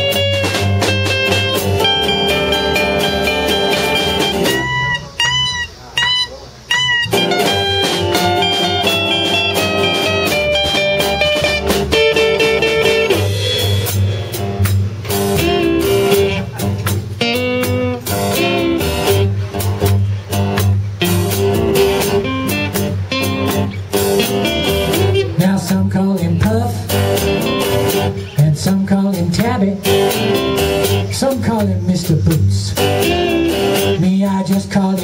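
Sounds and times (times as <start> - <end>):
blues band playing: 0.0 - 35.0
high arching guitar notes: 0.0 - 35.0.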